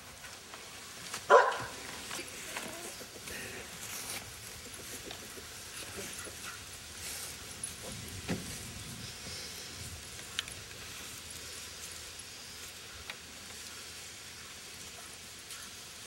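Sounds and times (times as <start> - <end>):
rustling: 0.1 - 13.9.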